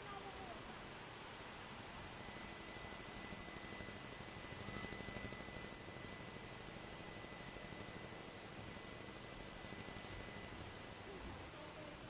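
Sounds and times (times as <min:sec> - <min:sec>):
high-pitched electronic whine: 0:00.0 - 0:12.0.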